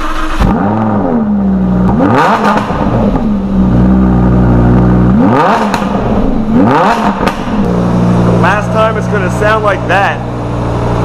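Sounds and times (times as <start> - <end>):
car engine idling: 0.0 - 11.0
car engine starting and revving: 0.0 - 11.0.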